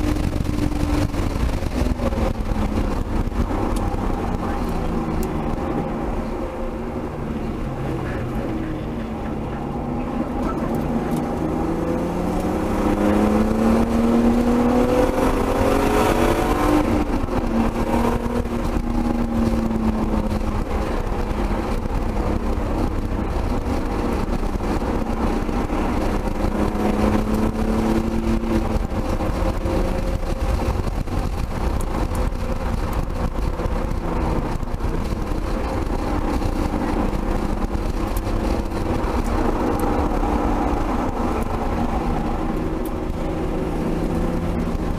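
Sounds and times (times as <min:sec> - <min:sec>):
car engine accelerating hard: 0:00.0 - 0:44.9
constant rushing noise: 0:00.0 - 0:44.9.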